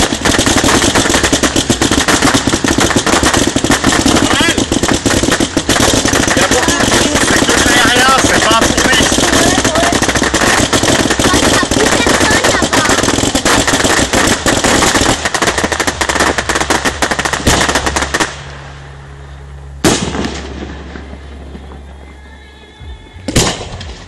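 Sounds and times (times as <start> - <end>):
loud firework bang with echo: 0.0 - 18.4, 19.8 - 21.8, 23.3 - 24.0
fireworks crackling bangs: 0.0 - 18.8, 19.8 - 22.7, 23.3 - 24.0.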